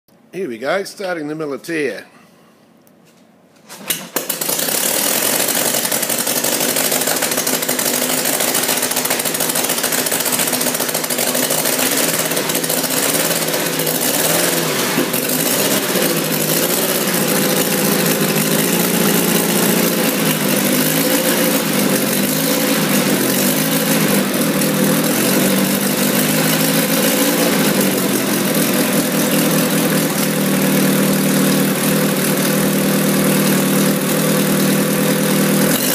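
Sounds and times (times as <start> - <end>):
engine starting and idling: 3.7 - 35.9.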